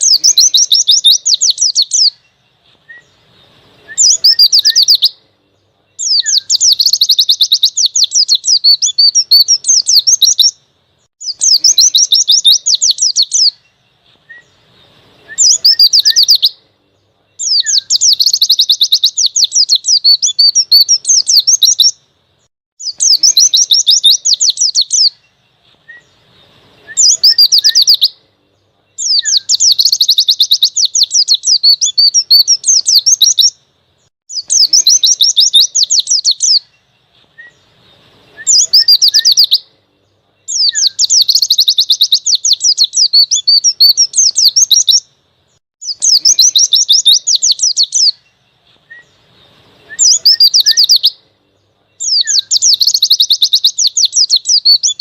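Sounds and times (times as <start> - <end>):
bird twittering: 0.0 - 22.1, 22.8 - 28.3, 28.9 - 55.0.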